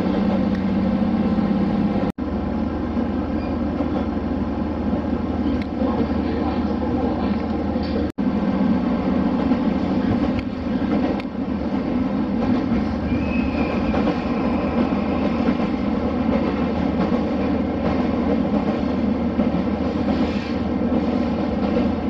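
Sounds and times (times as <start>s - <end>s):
diesel railcar running: 0.0s - 22.0s.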